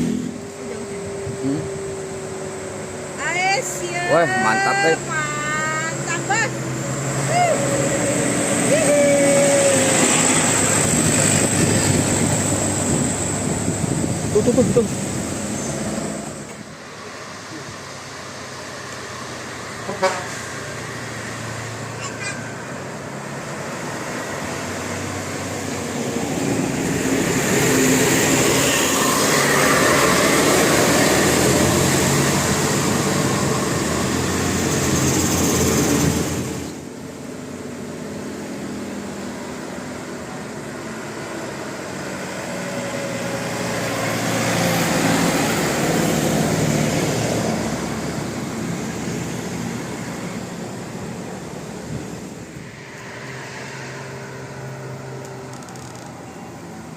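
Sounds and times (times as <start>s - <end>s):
heavy vehicles passing: 0.0s - 56.9s.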